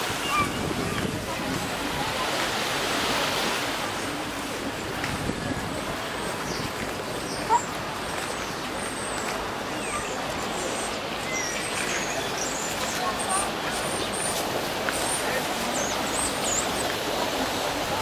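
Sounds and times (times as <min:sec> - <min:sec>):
murmur of crowd voices: 0:00.0 - 0:18.0
street background noise: 0:00.0 - 0:18.0.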